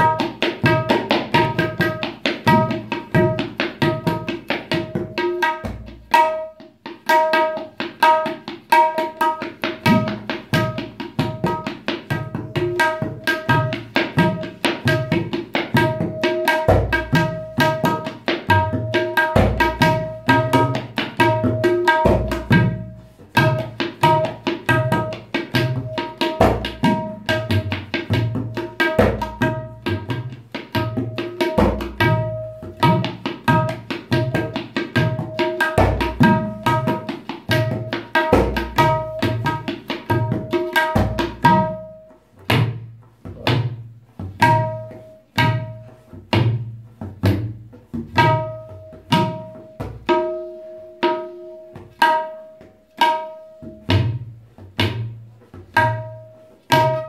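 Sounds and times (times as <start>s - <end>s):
tabla drumming: 0.0s - 57.0s.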